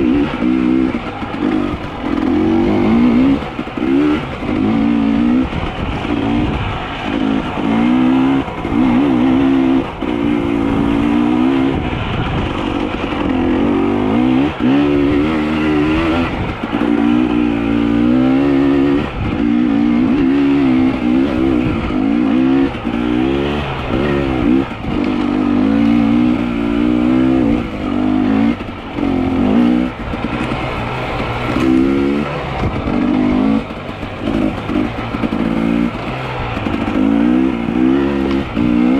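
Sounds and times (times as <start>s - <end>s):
small petrol engine revving: 0.0s - 38.9s.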